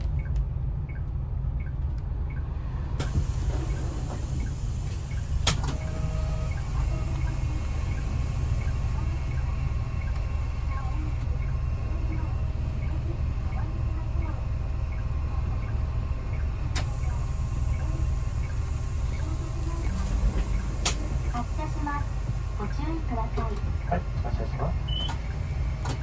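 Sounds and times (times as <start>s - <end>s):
coach engine and road rumble: 0.0s - 26.0s.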